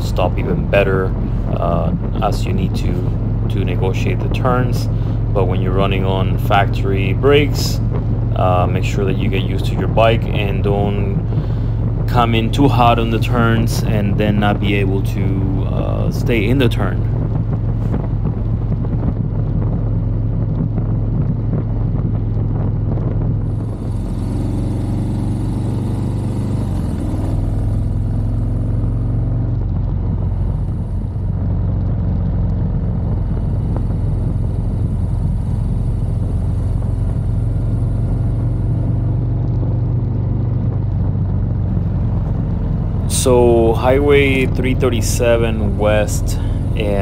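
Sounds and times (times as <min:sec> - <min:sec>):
motorcycle engine running: 0:00.0 - 0:47.0
wind and road noise: 0:00.0 - 0:47.0.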